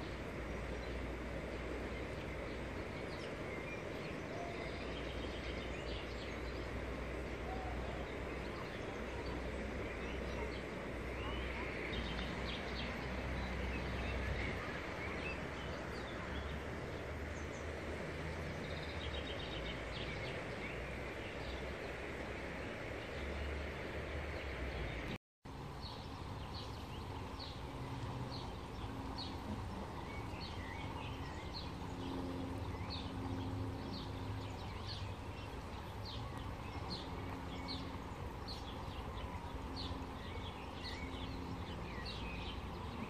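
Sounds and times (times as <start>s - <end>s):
river flowing: 0.0s - 43.0s.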